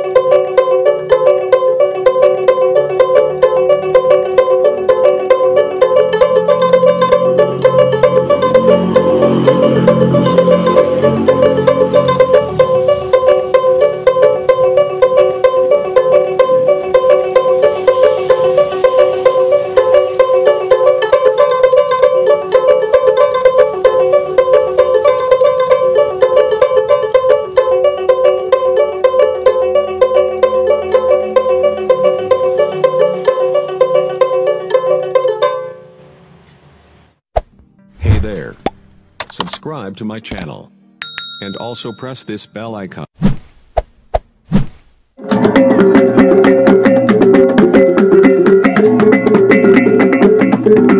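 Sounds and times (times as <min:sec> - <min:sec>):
plucked lute: 0:00.0 - 0:35.8, 0:45.2 - 0:50.9.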